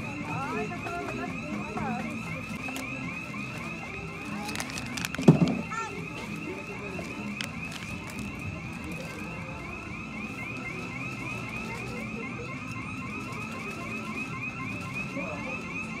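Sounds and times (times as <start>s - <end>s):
electronic alarm tone warbling: 0.0s - 16.0s
low background hubbub: 0.0s - 16.0s.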